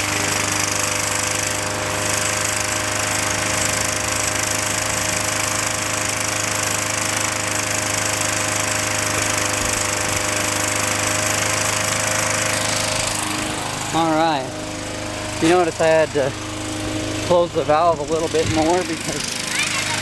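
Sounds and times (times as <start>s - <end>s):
small lawn mower engine running: 0.0s - 20.0s.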